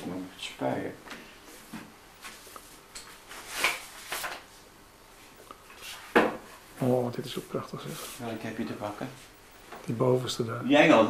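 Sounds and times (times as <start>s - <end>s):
soft rustles and handling noises: 0.5s - 10.5s.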